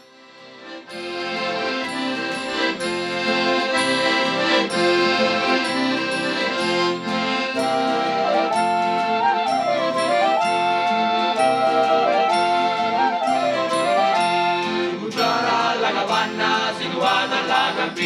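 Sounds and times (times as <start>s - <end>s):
instrumental folk music: 0.0s - 18.0s.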